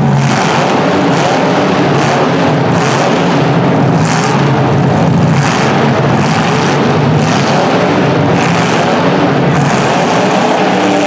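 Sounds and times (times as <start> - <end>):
unmuffled car engines revving: 0.0 - 11.0.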